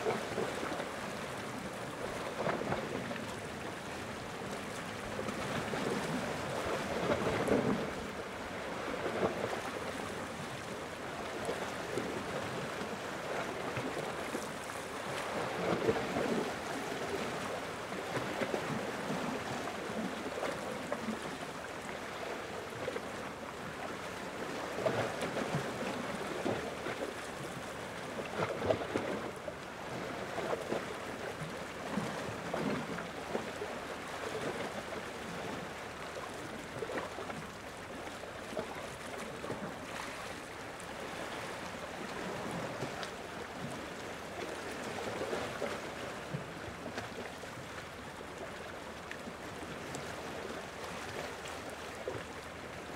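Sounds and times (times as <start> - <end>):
small waves lapping at shore: 0.0 - 52.9
water splashes: 0.0 - 52.9.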